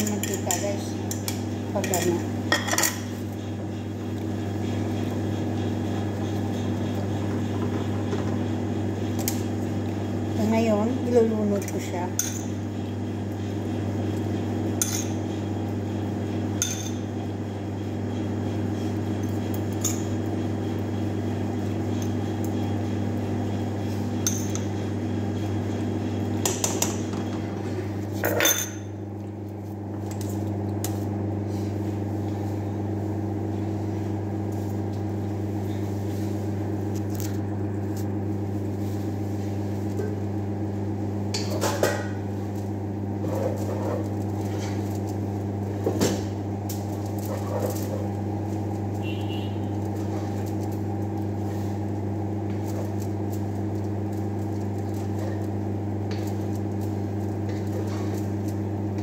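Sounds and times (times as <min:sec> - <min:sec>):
kitchen machine hum: 0:00.0 - 0:59.0.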